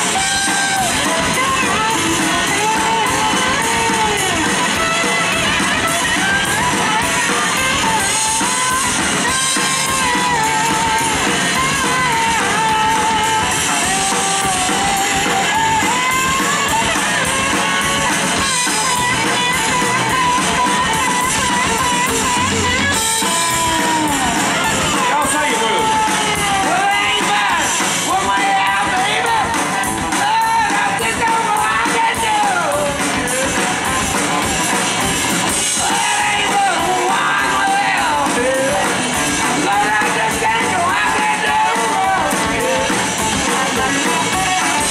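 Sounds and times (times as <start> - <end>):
electric lead guitar: 0.0 - 44.9
rock band playing: 0.0 - 44.9.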